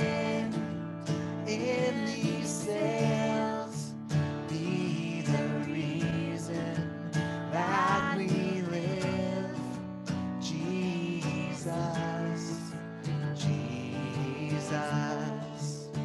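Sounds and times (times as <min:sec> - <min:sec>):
acoustic guitar strummed: 0:00.0 - 0:16.0
man and woman singing: 0:00.0 - 0:16.0.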